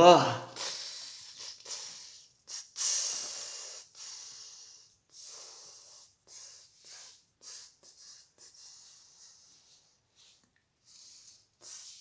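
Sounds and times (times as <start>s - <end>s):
person breathing noisily: 0.0s - 12.0s.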